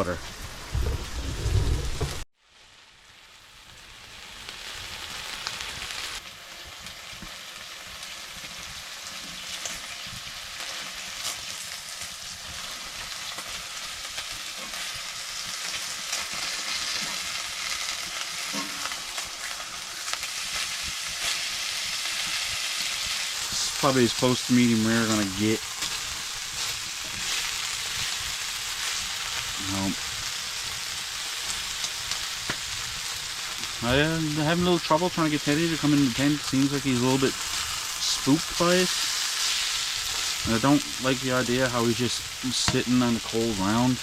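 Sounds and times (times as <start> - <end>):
steak sizzling and popping: 0.0 - 44.0.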